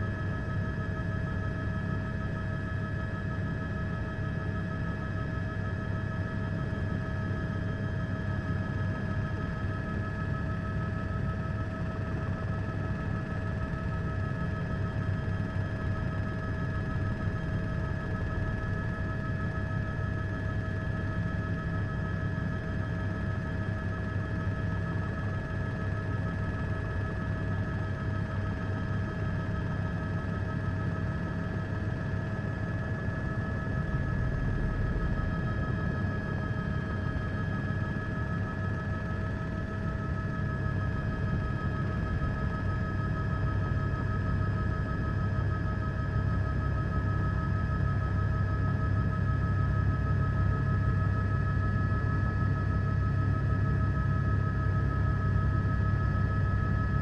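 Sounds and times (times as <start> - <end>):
helicopter rotor rumble: 0.0 - 57.0.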